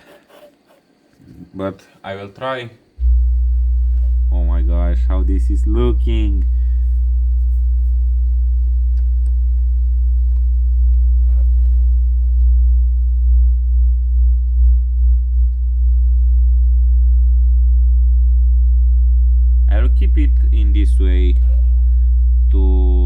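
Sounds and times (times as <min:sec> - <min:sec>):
low subwoofer test tone: 0:03.0 - 0:23.0.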